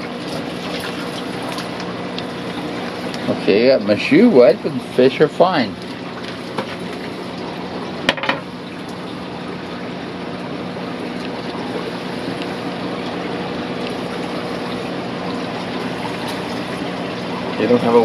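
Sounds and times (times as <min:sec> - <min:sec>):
aquarium water trickling: 0:00.0 - 0:18.0
low pump hum: 0:00.0 - 0:18.0.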